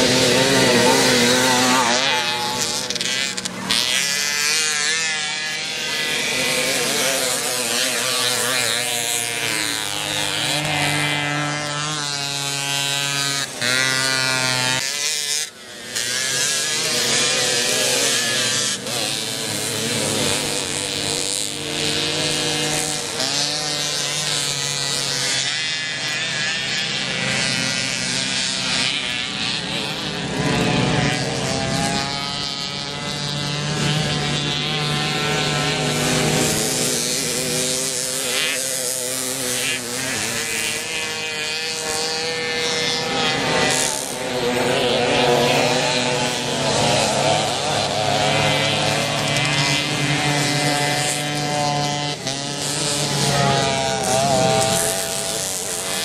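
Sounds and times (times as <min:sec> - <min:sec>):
moped engines revving: 0:00.0 - 0:56.0.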